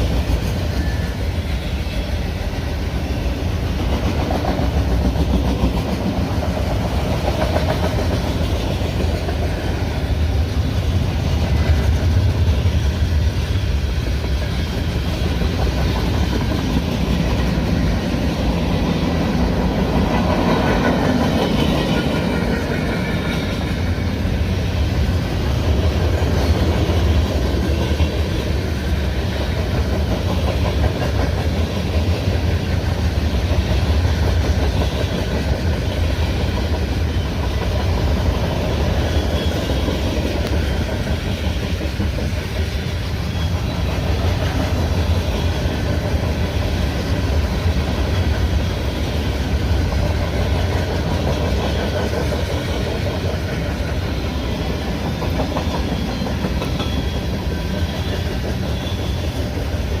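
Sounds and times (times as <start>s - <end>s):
freight train cars rolling: 0.0s - 60.0s.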